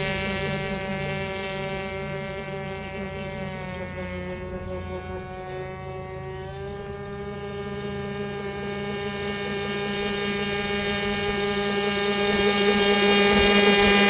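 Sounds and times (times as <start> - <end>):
model boat engine high pitch: 0.0 - 14.0.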